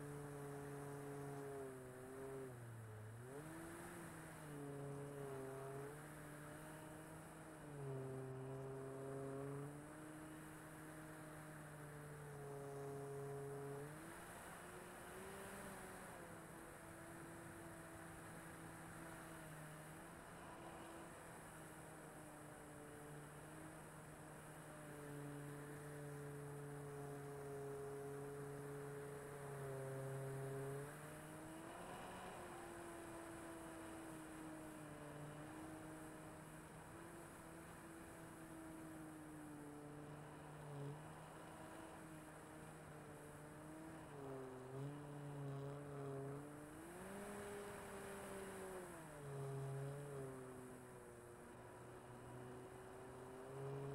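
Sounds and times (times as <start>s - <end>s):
model plane propeller humming: 0.0s - 53.9s.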